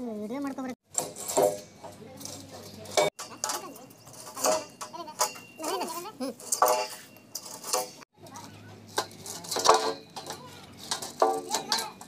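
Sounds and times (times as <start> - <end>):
voices talking: 1.4 - 12.0.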